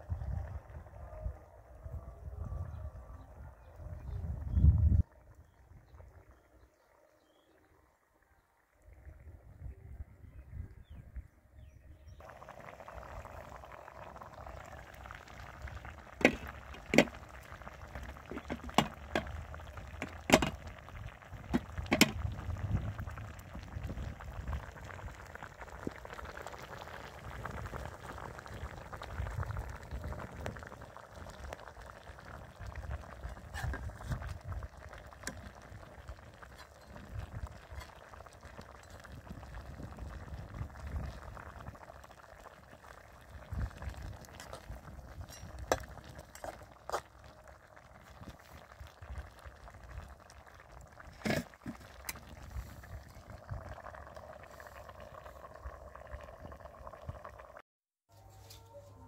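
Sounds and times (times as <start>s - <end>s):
broth bubbling: 0.0s - 57.6s.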